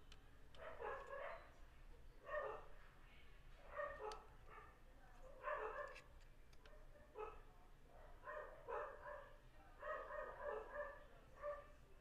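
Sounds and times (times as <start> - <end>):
dog barking faintly: 0.5 - 1.6, 2.2 - 2.8, 3.6 - 12.0.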